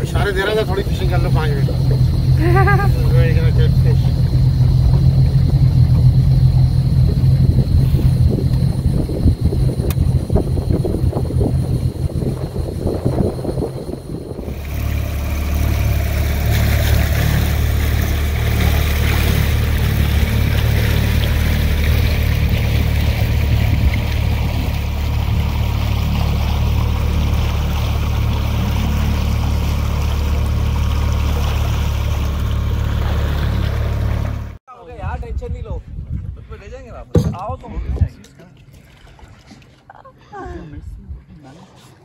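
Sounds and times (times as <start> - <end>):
motorboat engine humming: 0.0 - 34.6, 38.4 - 42.0
water rushing: 0.0 - 34.6.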